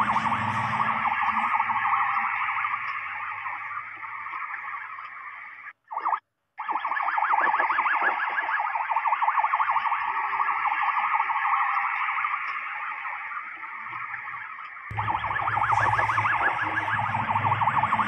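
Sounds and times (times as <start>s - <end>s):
emergency sirens wailing: 0.0s - 18.0s.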